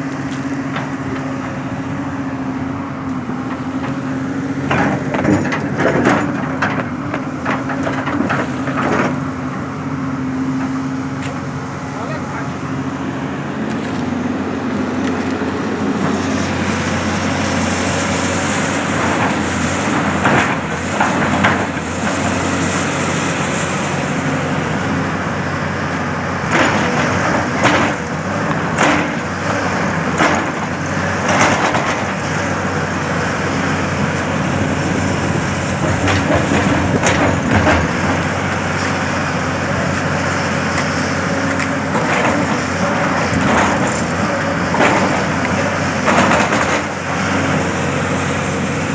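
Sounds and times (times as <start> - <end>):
metal clanking on earth and stone: 0.0 - 12.7, 14.9 - 48.8
heavy machine diesel engine: 0.0 - 48.9.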